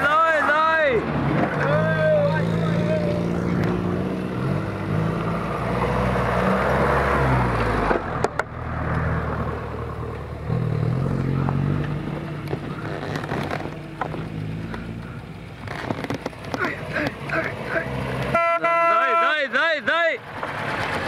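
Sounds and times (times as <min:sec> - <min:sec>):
off-road vehicle engine revving: 0:00.9 - 0:19.5.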